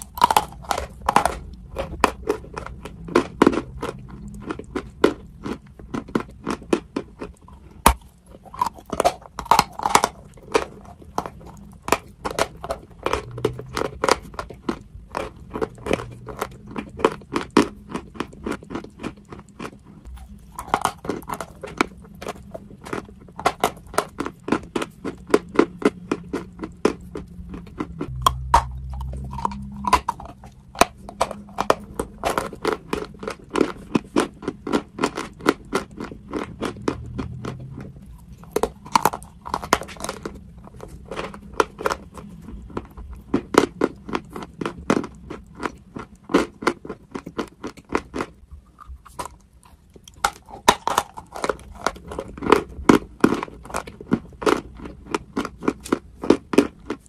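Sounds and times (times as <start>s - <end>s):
crunching and chewing: 0.0s - 57.0s.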